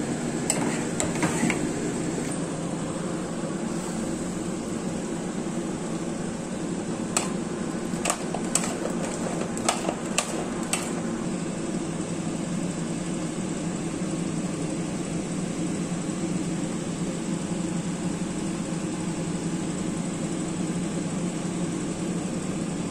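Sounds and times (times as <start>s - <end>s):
ventilation machinery hum: 0.0s - 22.9s.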